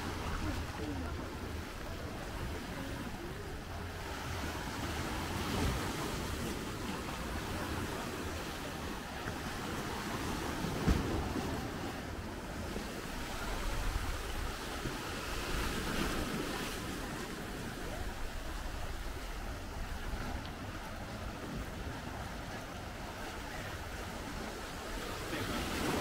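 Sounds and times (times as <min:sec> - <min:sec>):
waves washing on beach: 0:00.0 - 0:26.0.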